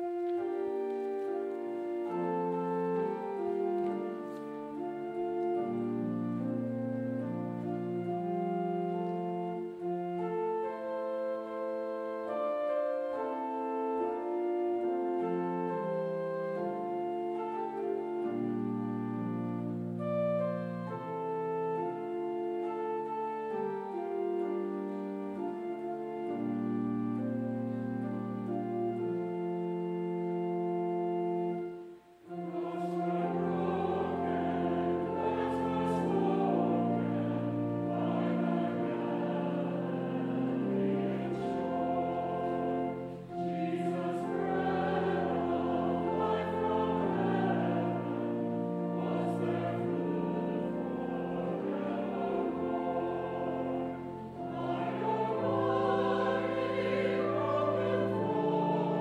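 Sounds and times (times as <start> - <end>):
instrumental accompaniment: 0.0 - 59.0
voices singing a hymn: 0.0 - 59.0.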